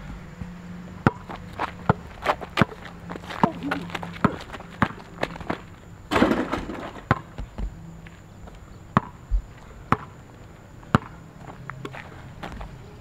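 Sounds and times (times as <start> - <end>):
basketball bouncing on asphalt: 0.0 - 12.8.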